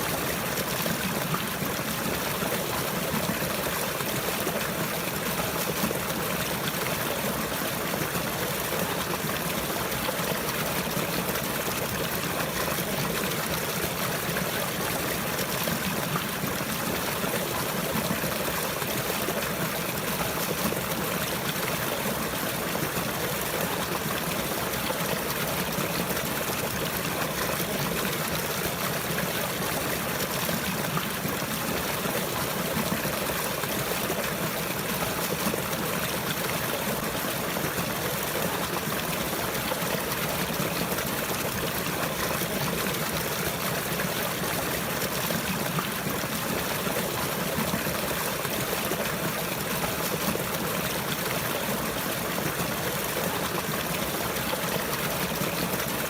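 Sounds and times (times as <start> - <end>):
stream trickling and flowing: 0.0 - 56.0.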